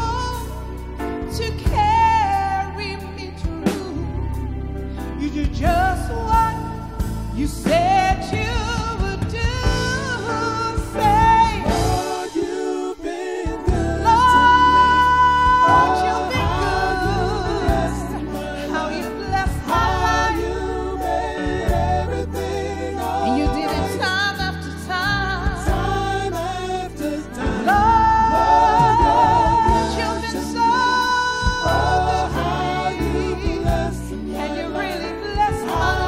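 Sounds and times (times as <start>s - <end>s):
woman singing gospel: 1.3s - 36.0s.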